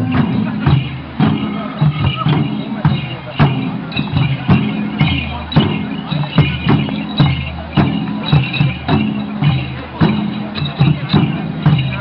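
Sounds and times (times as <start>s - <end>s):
barrel drums in dance rhythm: 0.0s - 12.0s.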